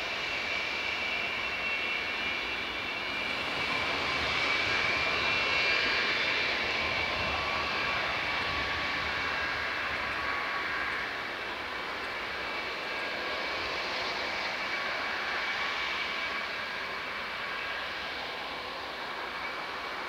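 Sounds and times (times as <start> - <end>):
jet engines high-pitched whine: 0.0 - 20.0.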